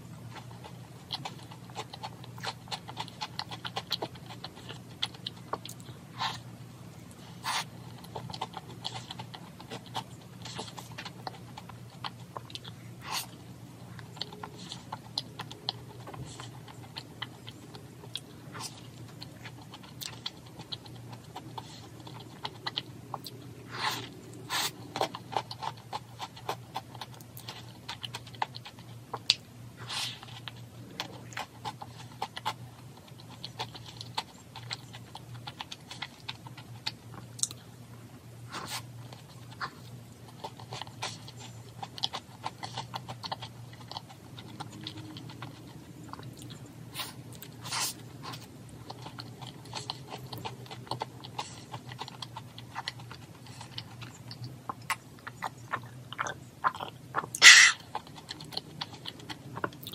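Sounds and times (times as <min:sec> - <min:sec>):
chewing: 0:00.0 - 0:59.9
steady low hum: 0:00.0 - 0:59.9.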